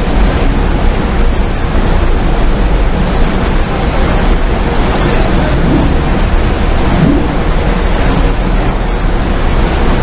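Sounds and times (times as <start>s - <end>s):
heavy industrial machinery roar: 0.0s - 10.0s.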